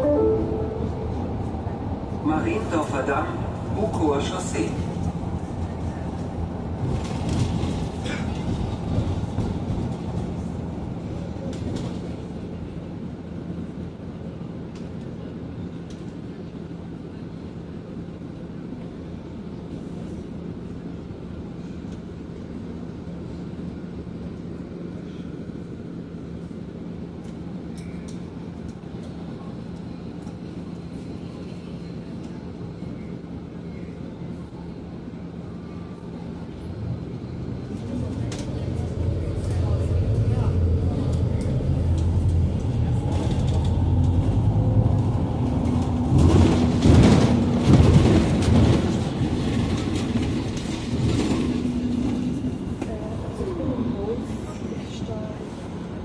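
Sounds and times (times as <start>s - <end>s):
bus road noise: 0.0s - 56.0s.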